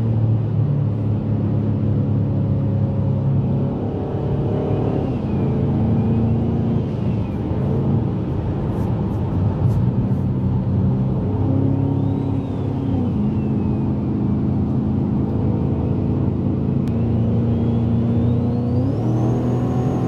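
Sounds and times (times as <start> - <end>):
car engine running hard: 0.0 - 20.0.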